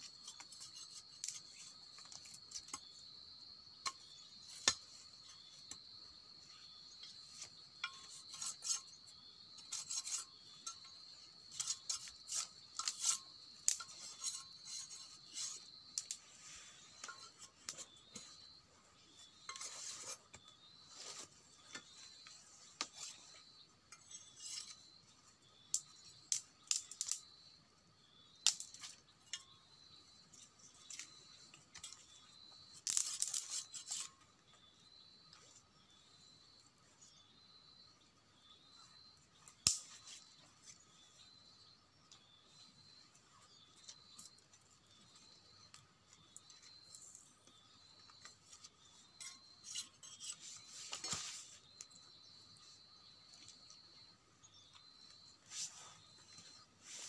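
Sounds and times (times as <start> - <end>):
hand work clicks and scrapes: 0.0 - 3.1, 3.8 - 27.3, 28.4 - 34.6, 38.9 - 41.3, 43.1 - 53.8, 54.7 - 57.0
insects droning: 0.0 - 57.0.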